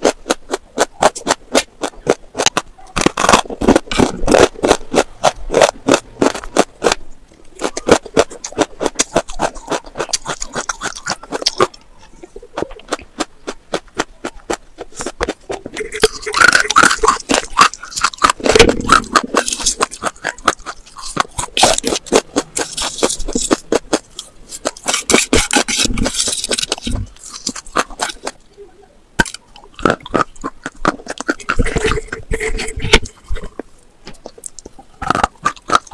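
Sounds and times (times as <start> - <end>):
crunching of chewed slate pencil: 0.0 - 28.4, 29.2 - 35.9.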